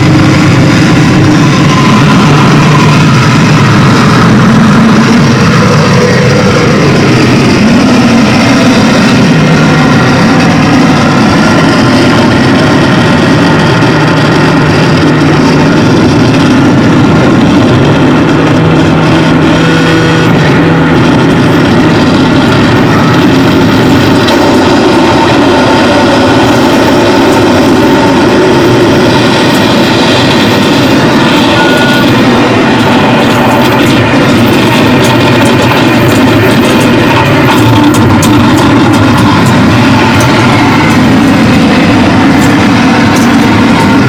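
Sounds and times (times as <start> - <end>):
distorted electronic noise: 0.0 - 44.0
low droning tones: 0.0 - 44.0.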